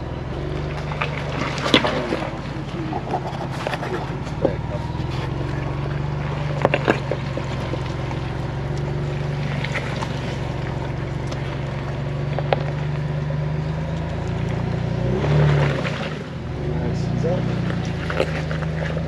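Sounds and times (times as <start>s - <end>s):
engine pulling at low revs: 0.0s - 19.0s.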